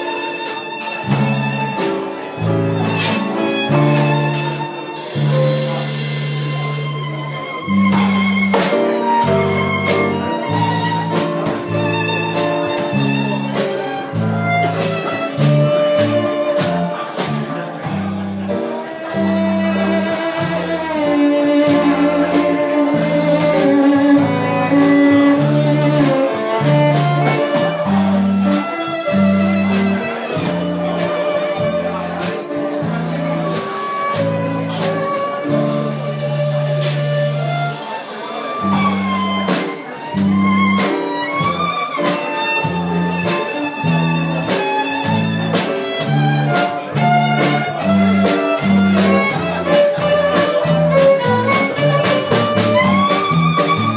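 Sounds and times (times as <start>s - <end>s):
amplified violin melody: 0.0s - 53.9s
drum kit: 0.0s - 53.9s.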